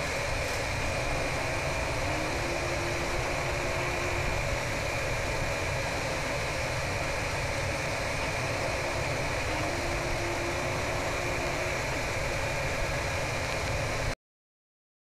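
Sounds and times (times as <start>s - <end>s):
faint steady tone: 0.0s - 14.1s
laser engraver whirring: 0.0s - 14.1s.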